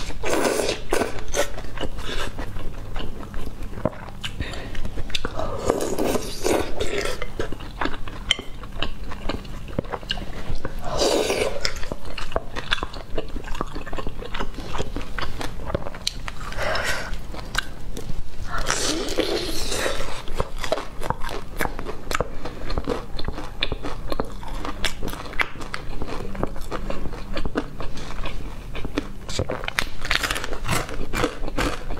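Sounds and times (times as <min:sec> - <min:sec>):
chewing: 0:00.0 - 0:31.9.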